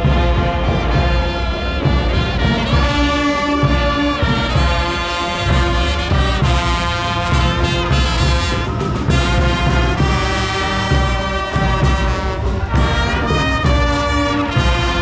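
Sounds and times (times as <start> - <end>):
trumpets and trombones: 0.0 - 15.0.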